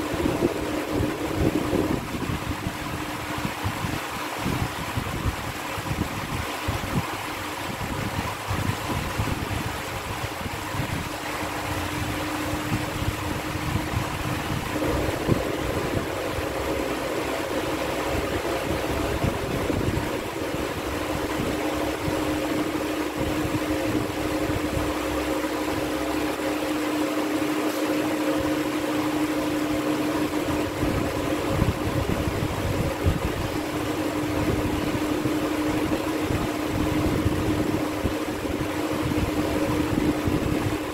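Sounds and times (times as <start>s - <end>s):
mechanical droning hum: 0.0s - 40.9s.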